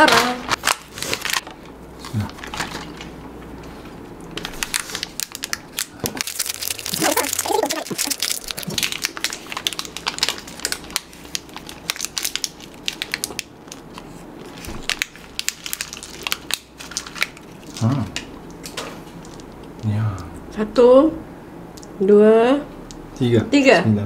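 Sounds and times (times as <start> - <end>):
crunching and crinkling: 0.0 - 19.9.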